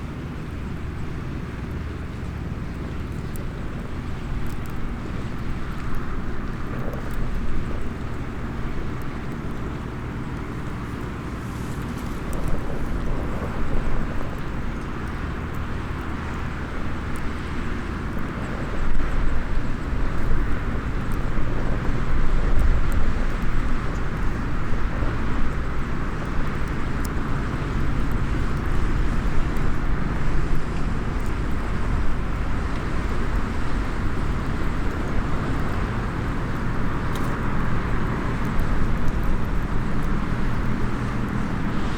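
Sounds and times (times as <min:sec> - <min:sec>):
low outdoor rumble: 0:00.0 - 0:41.9
small wood fire crackling: 0:00.5 - 0:41.9.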